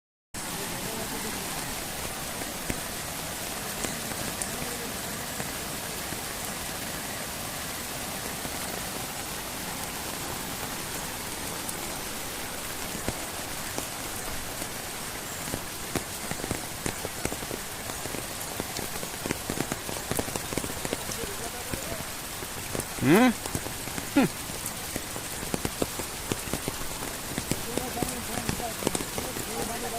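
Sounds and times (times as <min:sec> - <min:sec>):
louder raindrops striking close: 0:00.4 - 0:29.9
steady rain falling: 0:00.4 - 0:29.9.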